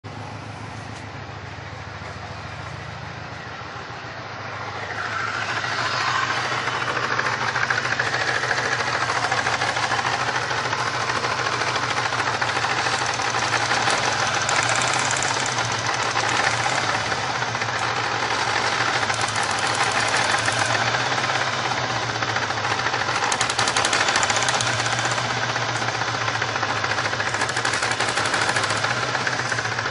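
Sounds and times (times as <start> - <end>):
car engine running with misfire: 4.2 - 29.9.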